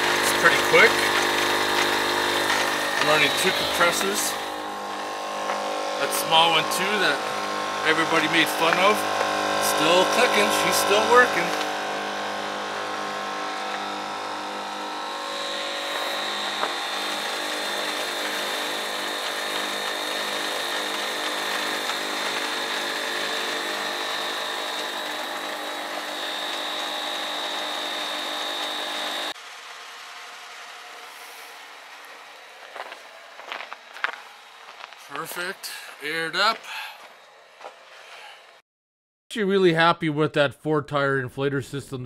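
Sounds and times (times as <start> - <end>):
air compressors running: 0.0 - 38.6.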